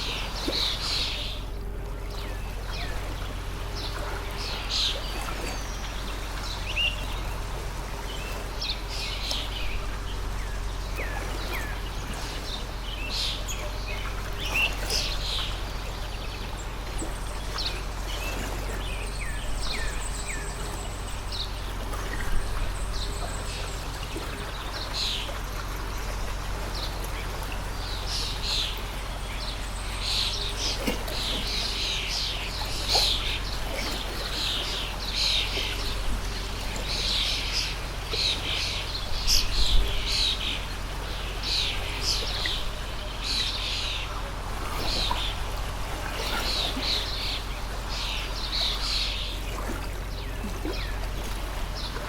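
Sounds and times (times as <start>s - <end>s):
small birds chirping: 0.0s - 52.0s
stream flowing: 0.0s - 52.0s.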